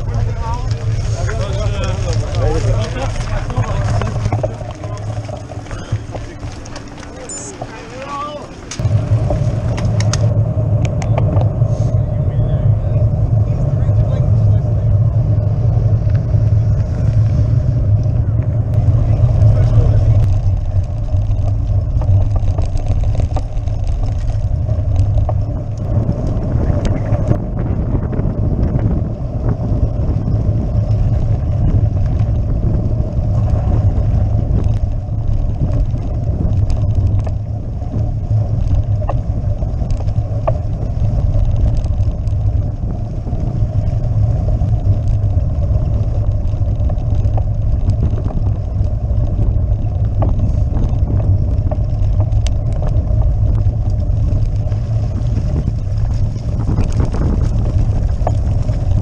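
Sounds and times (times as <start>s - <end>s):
bicycle rumbling over cobblestones: 0.0s - 59.0s.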